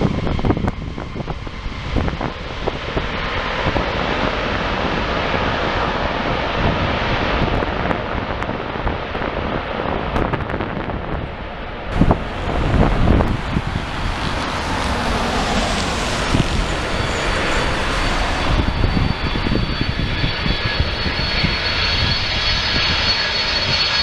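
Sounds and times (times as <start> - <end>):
jet engine roar: 0.0 - 24.0
wind buffeting microphone: 0.0 - 24.0.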